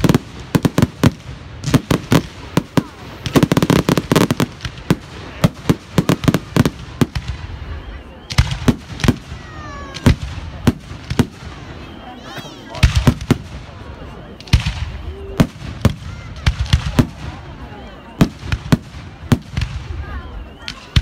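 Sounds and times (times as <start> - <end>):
fireworks bangs and crackles: 0.0 - 21.0
whistling firework: 0.0 - 21.0.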